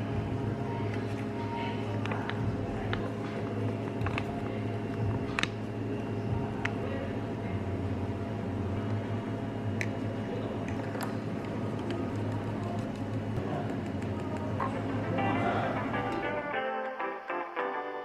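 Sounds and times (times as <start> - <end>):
low appliance hum: 0.0 - 17.8.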